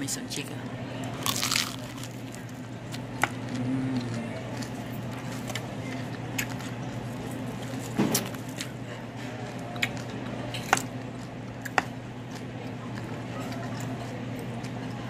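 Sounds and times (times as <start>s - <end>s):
low hum of restaurant room: 0.0s - 15.0s.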